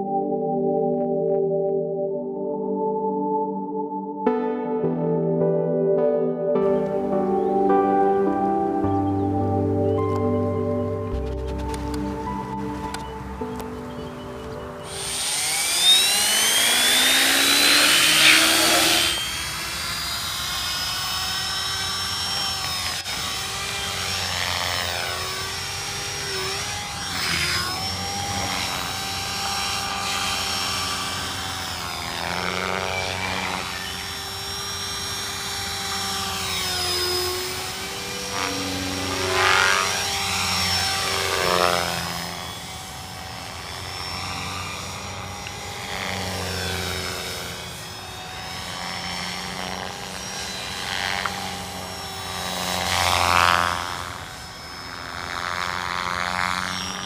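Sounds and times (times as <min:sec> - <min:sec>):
rc helicopter motor whine: 0:10.1 - 0:57.0.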